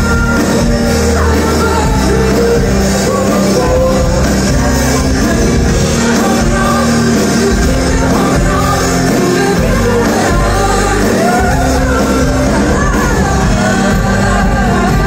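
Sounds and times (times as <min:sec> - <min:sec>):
bass: 0:00.0 - 0:15.0
electric guitar: 0:00.0 - 0:15.0
woman singing: 0:00.0 - 0:15.0.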